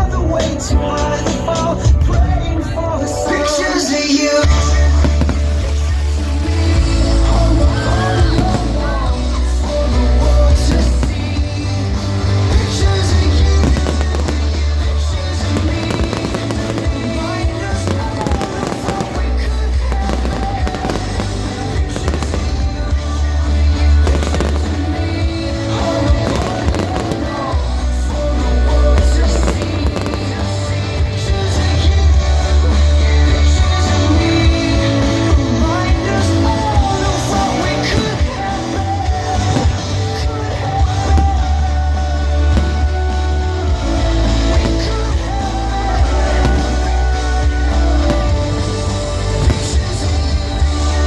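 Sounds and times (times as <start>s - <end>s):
loud music with heavy bass: 0.0s - 51.0s
fireworks bangs and crackles: 4.4s - 51.0s.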